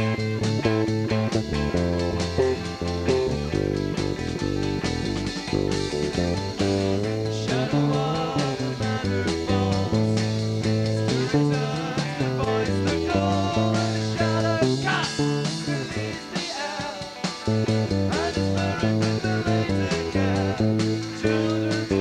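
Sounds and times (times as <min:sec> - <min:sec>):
bass guitar: 0:00.0 - 0:22.0
drums: 0:00.0 - 0:22.0
electric guitar: 0:00.0 - 0:22.0.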